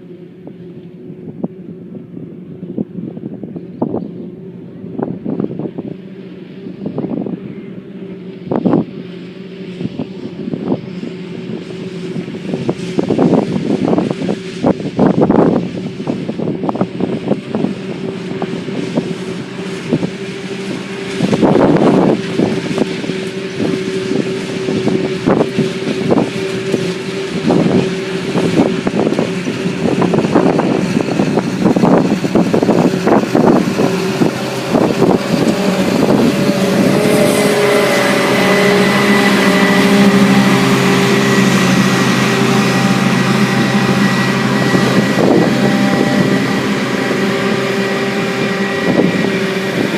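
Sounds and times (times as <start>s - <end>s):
diesel engines droning: 0.0s - 49.9s
second engine: 0.0s - 49.9s
wind buffeting microphone: 0.0s - 49.9s.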